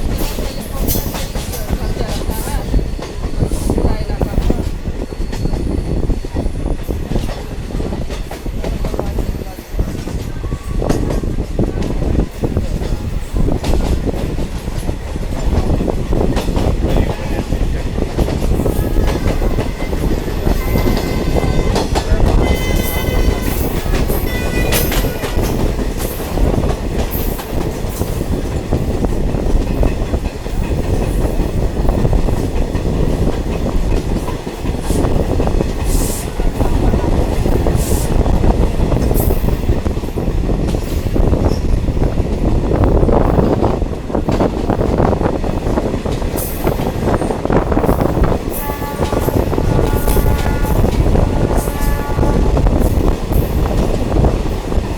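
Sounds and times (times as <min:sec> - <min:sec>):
train engine and wheels rumbling: 0:00.0 - 0:54.9.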